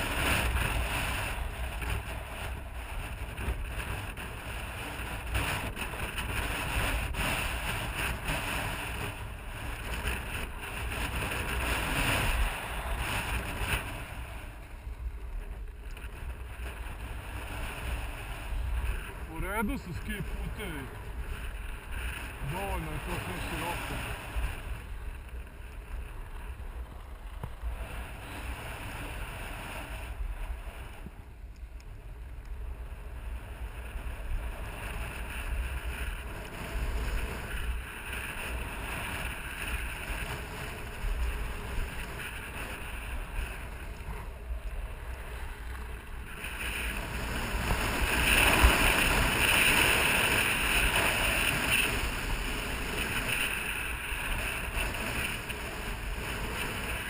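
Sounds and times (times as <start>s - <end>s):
skis scraping over snow: 0.0s - 57.0s
wind rushing over microphone: 0.0s - 57.0s.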